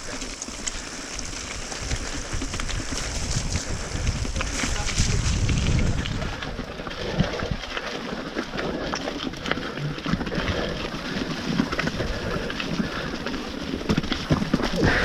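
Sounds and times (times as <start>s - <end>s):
bike rattling: 0.0s - 15.0s
tyres crunching on stones: 0.0s - 15.0s.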